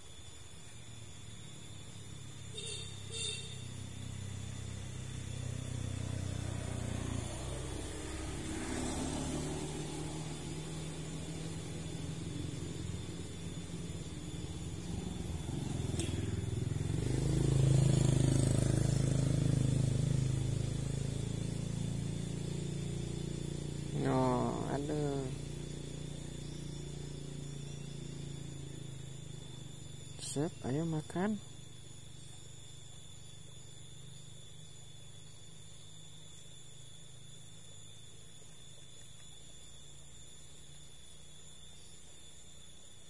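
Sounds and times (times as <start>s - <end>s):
motor engine passing by: 0.8s - 39.2s.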